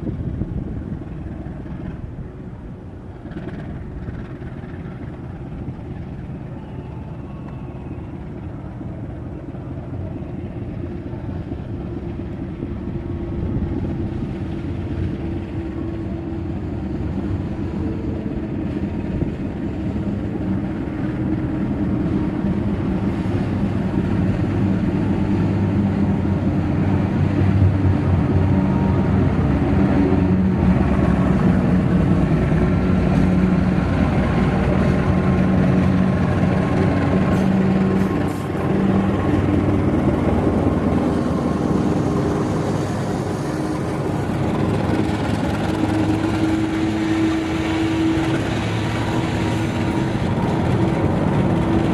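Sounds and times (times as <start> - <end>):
diesel locomotive engine droning: 0.0 - 51.9.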